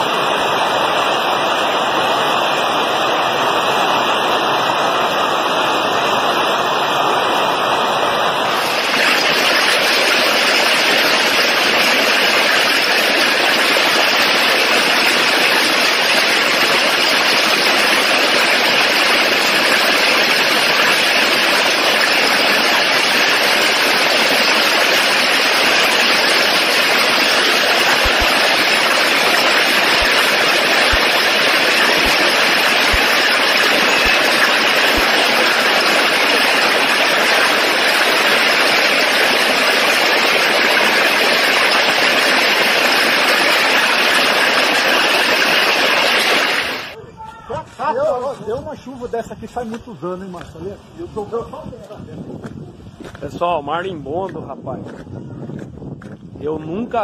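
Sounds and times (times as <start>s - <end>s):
heavy hail and rain: 0.0s - 47.0s.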